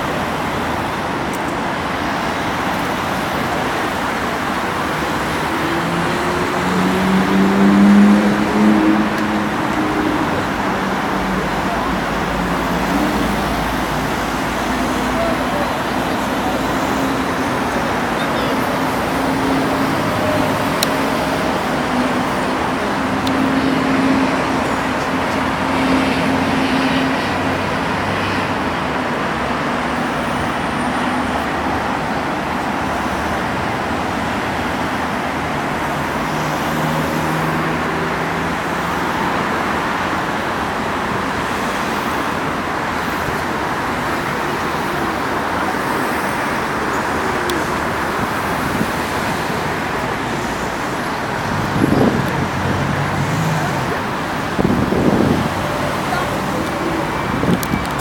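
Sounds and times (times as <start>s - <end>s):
engines passing: 0.0s - 58.0s
road traffic noise: 0.0s - 58.0s.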